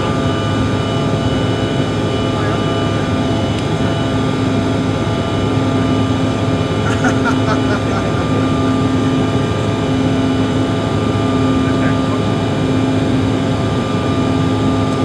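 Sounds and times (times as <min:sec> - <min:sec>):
jet engine hum: 0:00.0 - 0:15.0.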